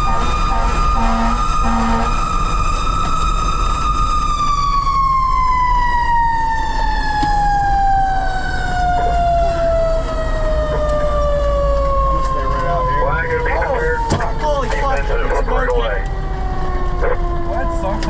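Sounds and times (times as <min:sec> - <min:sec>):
fire truck siren winding down: 0:00.0 - 0:18.0
truck engine rumble: 0:00.0 - 0:18.0.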